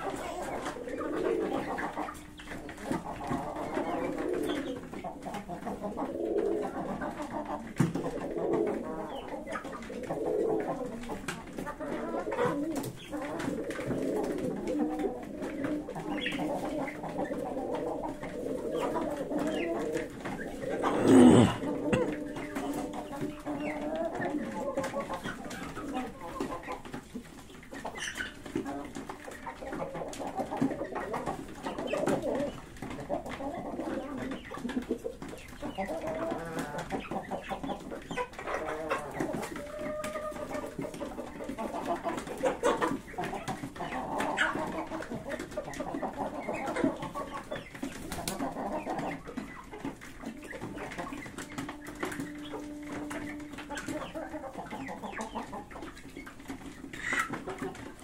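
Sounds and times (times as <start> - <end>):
pigeons cooing: 0.0 - 26.8, 27.9 - 55.6
chickens clucking: 0.0 - 58.0.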